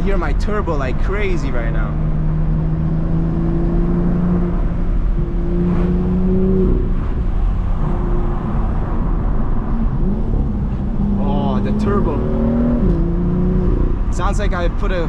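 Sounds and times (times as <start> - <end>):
car engine accelerating: 0.0 - 15.0
road rumble: 0.0 - 15.0.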